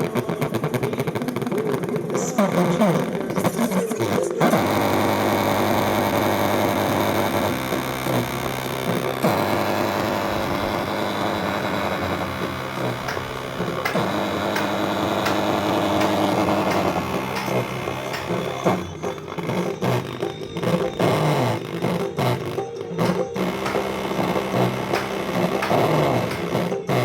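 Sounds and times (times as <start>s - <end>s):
distorted droning loudspeaker hum: 0.0s - 27.0s.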